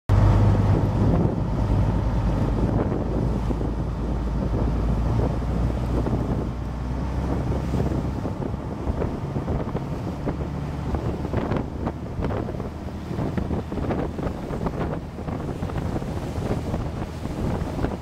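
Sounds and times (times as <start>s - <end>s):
water splashing against hull: 0.1s - 18.0s
wind buffeting microphone: 0.1s - 18.0s.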